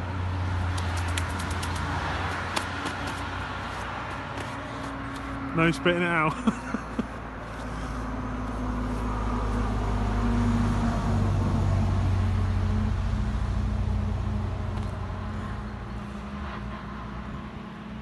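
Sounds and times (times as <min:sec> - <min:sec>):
vehicle passing engine drone: 0:00.0 - 0:18.0.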